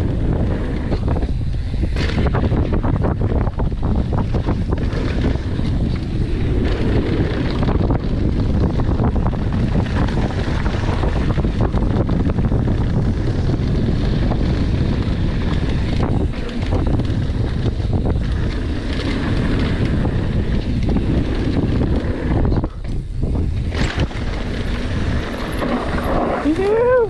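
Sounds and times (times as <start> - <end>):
bike tyres rumbling on dirt trail: 0.0 - 27.0
wind rushing over microphone: 0.0 - 27.0.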